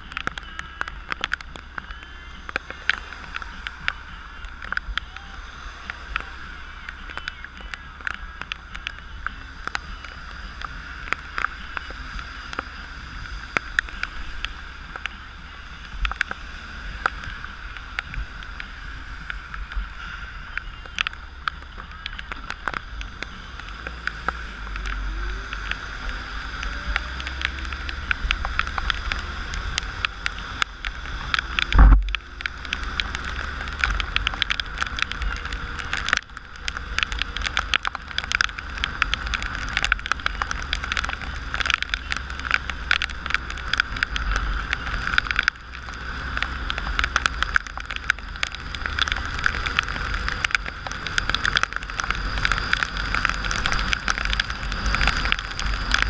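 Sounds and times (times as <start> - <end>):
raindrops clicking on camera: 0.0 - 56.0
wind rumble: 0.0 - 56.0.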